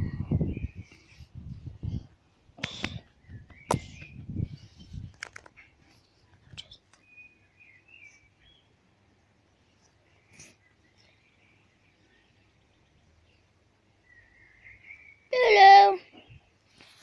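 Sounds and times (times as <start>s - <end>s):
faint bird chirps: 0.0s - 1.3s, 2.9s - 8.9s, 9.5s - 16.6s.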